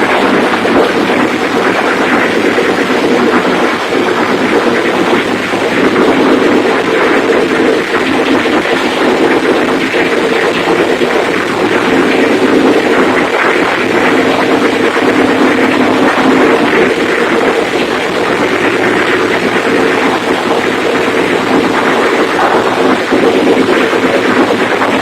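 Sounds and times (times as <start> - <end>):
generator engine running: 0.0 - 25.0.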